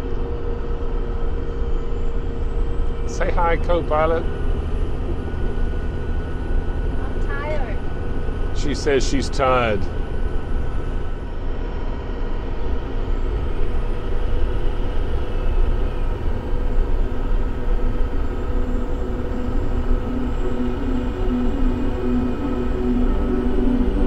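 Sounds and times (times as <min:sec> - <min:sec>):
truck engine rumble: 0:00.0 - 0:24.0.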